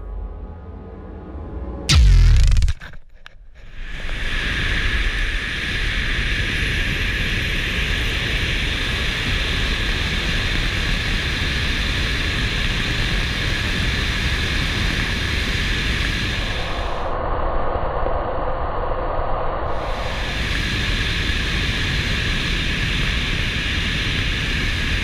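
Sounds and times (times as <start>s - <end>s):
wind rushing over camera: 2.4s - 25.0s.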